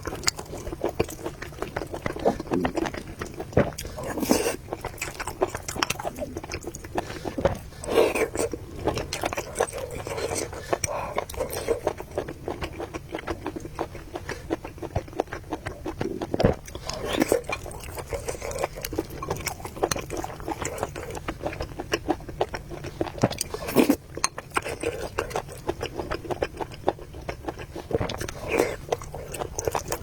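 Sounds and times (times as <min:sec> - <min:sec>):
chewing noodles: 0:00.0 - 0:30.0.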